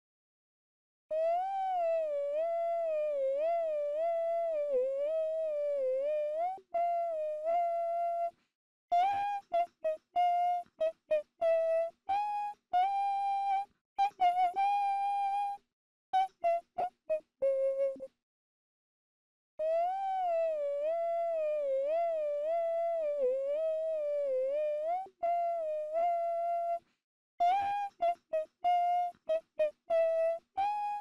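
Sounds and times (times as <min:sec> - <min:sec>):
person humming a melody: 0:01.1 - 0:15.6, 0:16.2 - 0:18.2, 0:19.6 - 0:26.8, 0:27.4 - 0:31.0.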